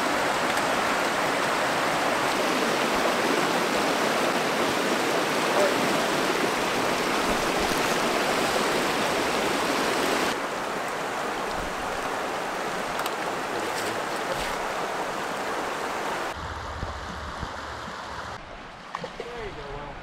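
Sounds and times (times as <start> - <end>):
creek water rushing over rocks: 0.0 - 16.4.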